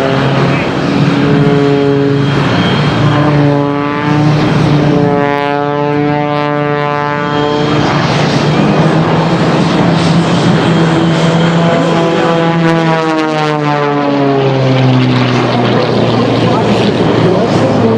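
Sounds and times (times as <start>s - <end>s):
aerobatic plane engine and propeller: 0.0s - 17.9s.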